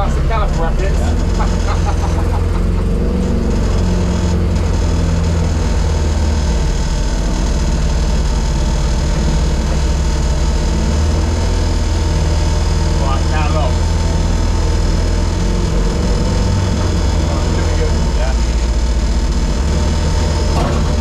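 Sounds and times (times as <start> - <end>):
car engine running at low revs: 0.0 - 21.0.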